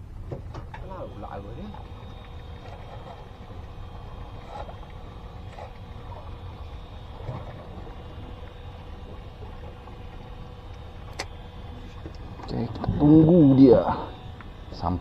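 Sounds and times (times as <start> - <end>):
boat engine rumble and hum: 0.0 - 15.0.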